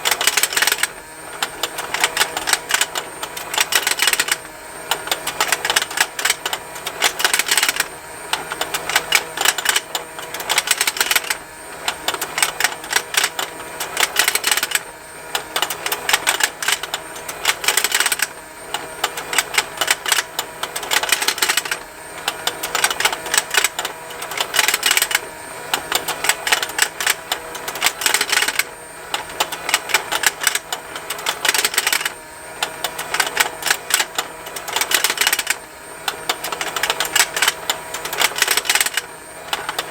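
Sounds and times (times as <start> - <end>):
faint motor hum: 0.0 - 39.9
rapid ticking of plastic toy: 0.0 - 39.9.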